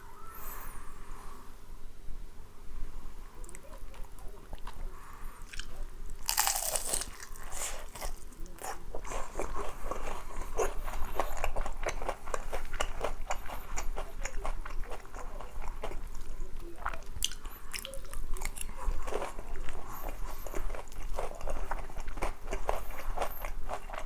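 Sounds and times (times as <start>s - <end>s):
crunching fried chicken: 3.5s - 24.0s.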